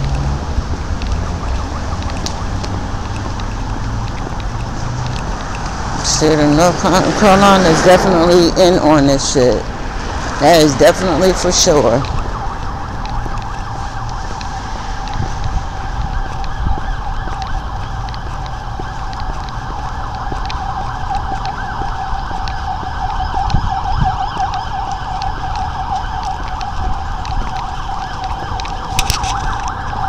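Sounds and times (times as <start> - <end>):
ambulance siren wailing: 0.0 - 30.0.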